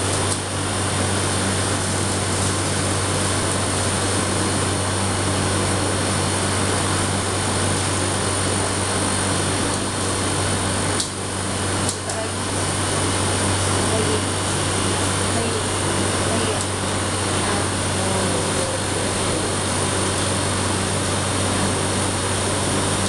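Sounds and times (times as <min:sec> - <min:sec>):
cotton candy machine whirring: 0:00.0 - 0:23.0.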